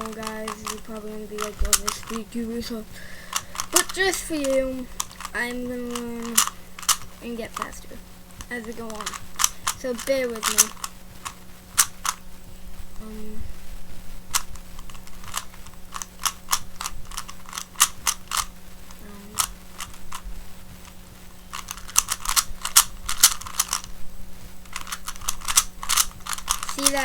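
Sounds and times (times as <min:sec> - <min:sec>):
puzzle cube clicking: 0:00.0 - 0:12.2, 0:14.3 - 0:24.0, 0:24.6 - 0:27.0.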